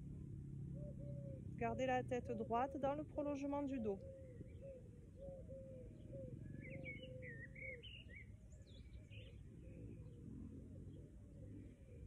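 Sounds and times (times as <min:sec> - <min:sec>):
faint birdsong: 0:00.0 - 0:12.0
songbird chirps and trills: 0:00.0 - 0:12.0.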